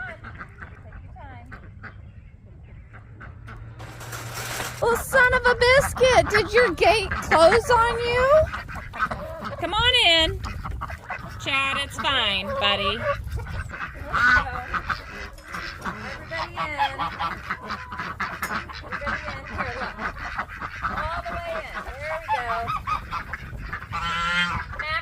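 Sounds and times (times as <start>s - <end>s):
geese honking: 2.8s - 25.0s.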